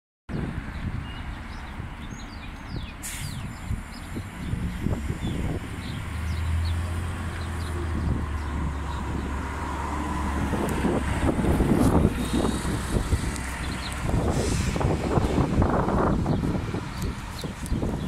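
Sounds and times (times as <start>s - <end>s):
bus engine drone passing: 0.3s - 18.0s.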